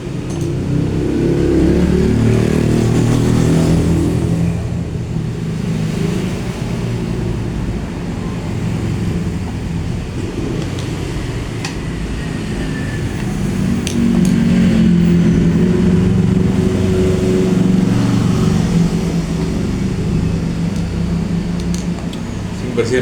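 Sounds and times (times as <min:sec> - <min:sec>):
gas burner rumbling: 0:00.0 - 0:23.0.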